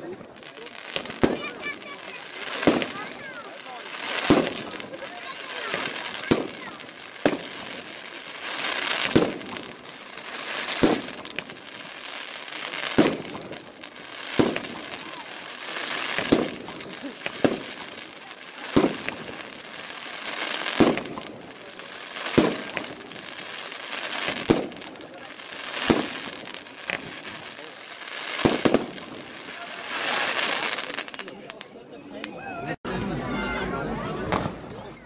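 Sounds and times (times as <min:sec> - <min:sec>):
hissing crackle of stars: 0:00.0 - 0:31.3
firework bangs: 0:00.0 - 0:31.7.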